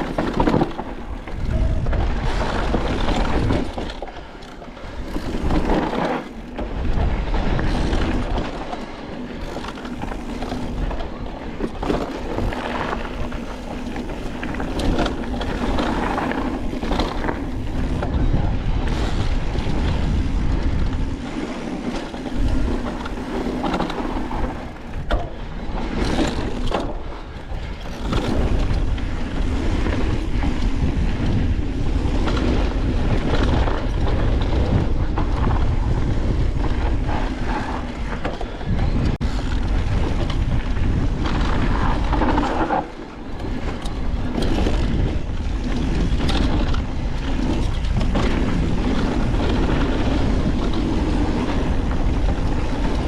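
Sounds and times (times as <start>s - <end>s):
bike rattling: 0.0s - 53.0s
tyres on dirt: 0.0s - 53.0s
wind rumbling on microphone: 0.0s - 53.0s.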